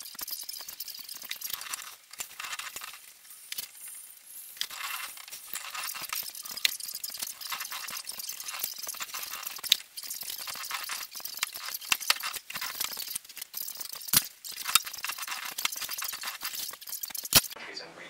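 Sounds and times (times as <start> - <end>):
slip roll clicking and rattling: 0.0 - 3.8, 4.6 - 17.6.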